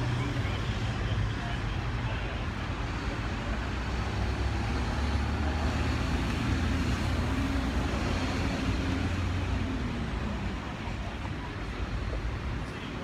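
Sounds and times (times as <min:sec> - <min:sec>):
large vehicle engine drone: 0:00.0 - 0:13.0
road traffic: 0:00.0 - 0:13.0.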